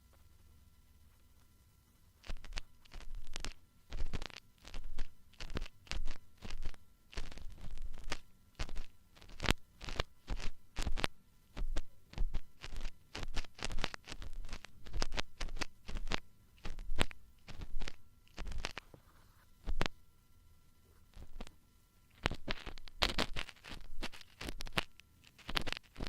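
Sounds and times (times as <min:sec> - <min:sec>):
tools scraping on microphone: 0:02.2 - 0:19.9, 0:22.1 - 0:26.0.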